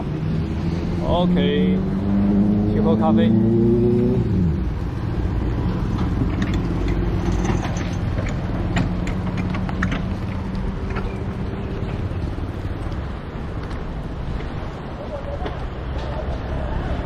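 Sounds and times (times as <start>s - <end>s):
road and tyre noise: 0.0s - 17.0s.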